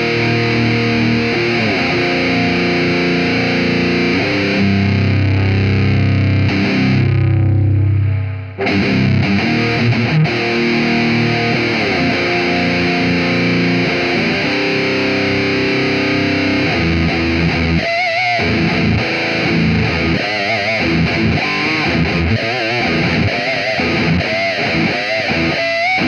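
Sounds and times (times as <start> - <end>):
distorted electric guitar: 0.0 - 26.0.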